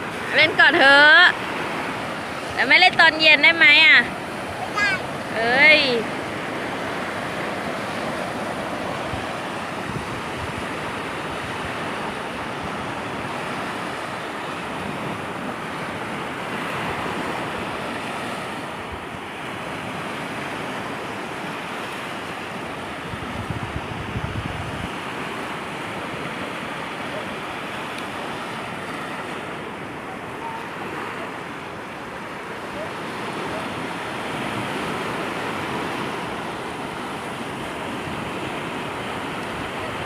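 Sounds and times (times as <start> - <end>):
wind rumbling on microphone: 0.0 - 21.6, 22.4 - 40.0
sea waves washing onto beach: 0.0 - 40.0.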